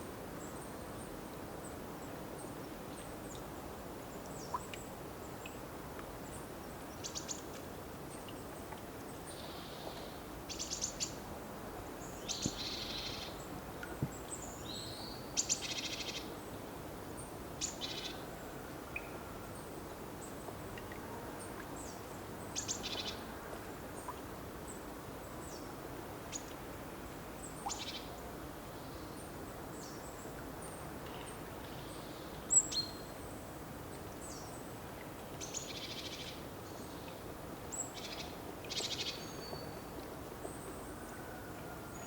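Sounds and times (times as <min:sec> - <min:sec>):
low background hiss: 0:00.0 - 0:42.0.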